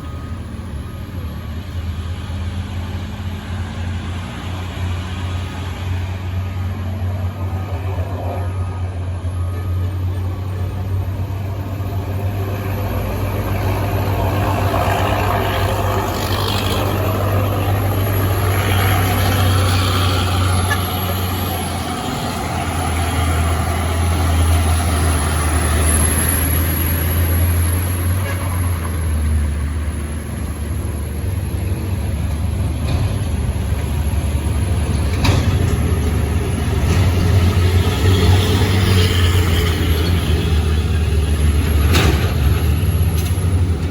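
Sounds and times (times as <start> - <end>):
road traffic noise: 0.0 - 43.9
truck diesel engines droning: 0.0 - 43.9.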